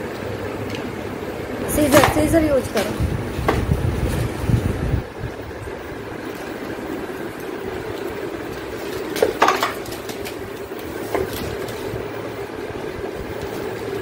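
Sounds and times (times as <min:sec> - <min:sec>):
steady background hum: 0:00.0 - 0:14.0
plastic bag crackling and rustling: 0:01.7 - 0:14.0.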